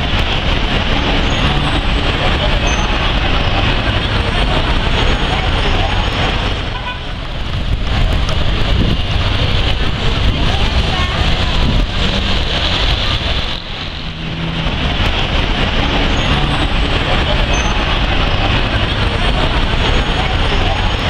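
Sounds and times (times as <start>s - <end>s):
heavy traffic din: 0.0s - 21.0s.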